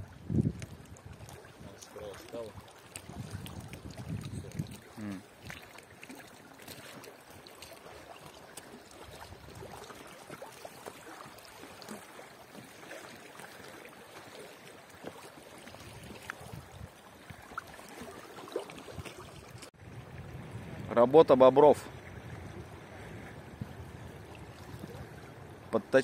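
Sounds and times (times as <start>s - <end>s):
small water splashes: 0.0s - 20.9s, 21.7s - 26.0s
river water lapping and gurgling: 0.0s - 26.0s.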